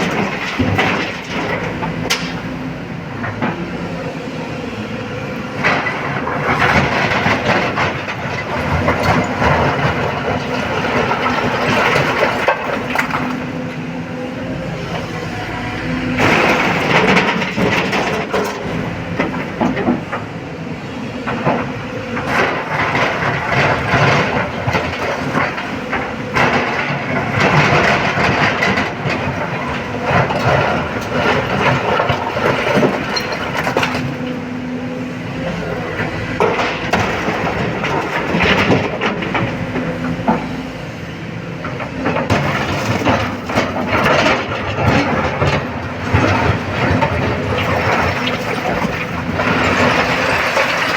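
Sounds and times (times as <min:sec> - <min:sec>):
excavator diesel engine under load: 0:00.0 - 0:50.9.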